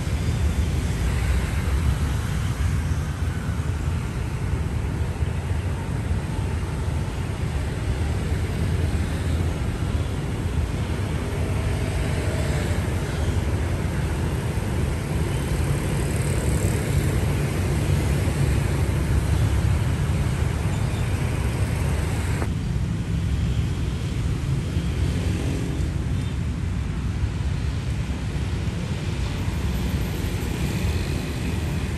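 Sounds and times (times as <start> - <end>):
low rumble of road traffic: 0.0 - 31.9.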